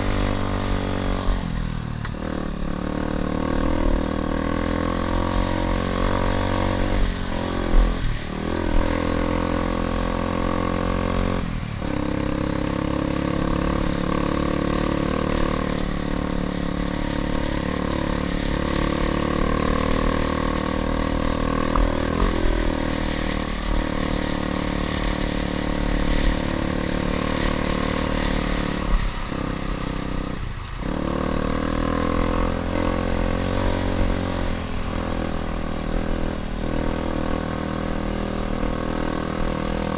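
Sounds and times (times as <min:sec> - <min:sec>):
dirt bike engine running: 0:02.1 - 0:39.9.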